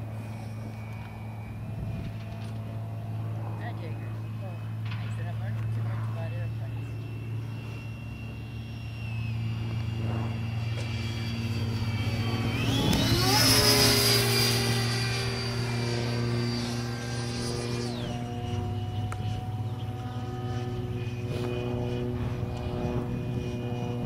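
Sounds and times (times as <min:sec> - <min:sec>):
low hum: 0:00.0 - 0:24.0
model jet fan whine: 0:00.0 - 0:24.0.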